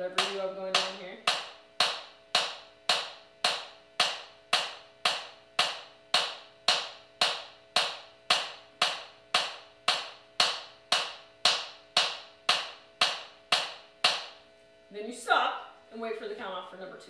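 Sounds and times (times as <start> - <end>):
metronome ticking: 0.0 - 14.4
faint steady hum: 0.0 - 17.0.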